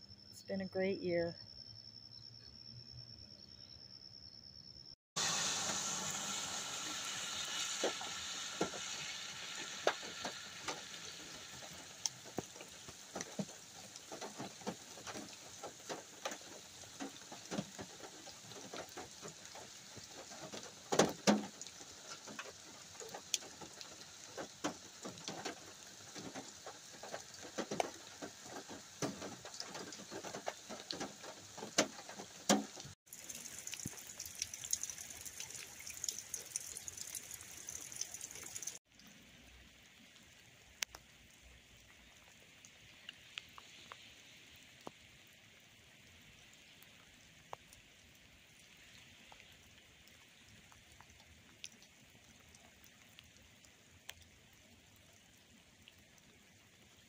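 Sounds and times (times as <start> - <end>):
rain hiss: 5.2 - 57.0
raindrops pattering and dripping: 5.2 - 57.0.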